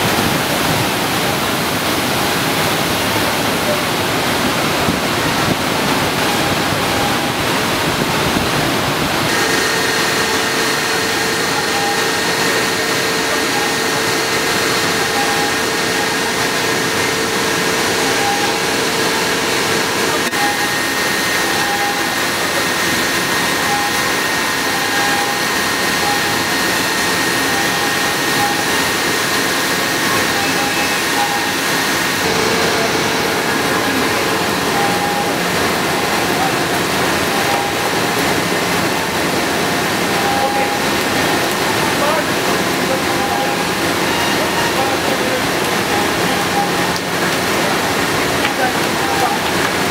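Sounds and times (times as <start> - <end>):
machinery rushing noise: 0.0 - 49.9
machinery whining tones: 9.2 - 49.6.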